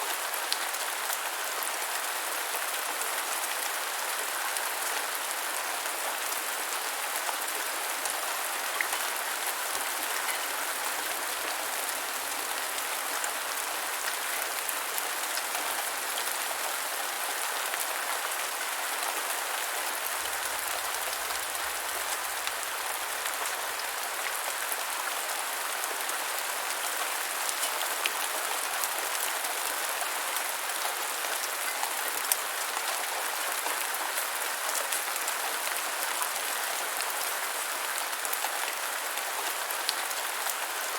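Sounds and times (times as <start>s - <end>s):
rain falling on ground: 0.0s - 40.9s.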